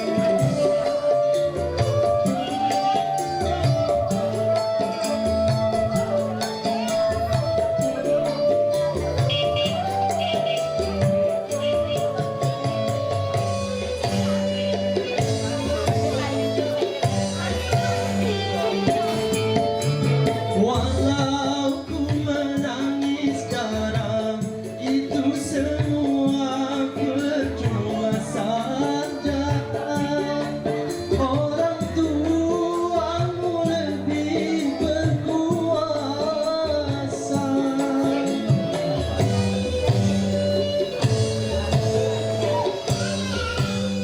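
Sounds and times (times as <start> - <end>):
instrumental accompaniment with beat: 0.0 - 44.0
person singing: 0.0 - 44.0.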